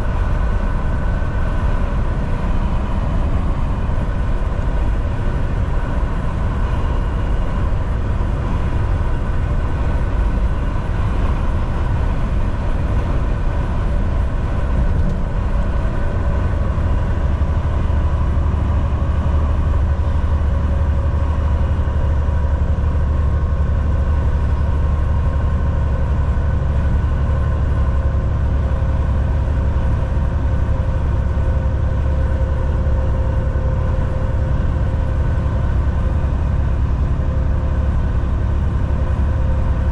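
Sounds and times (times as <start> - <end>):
tire and road noise: 0.0 - 39.9
truck engine drone: 0.0 - 39.9.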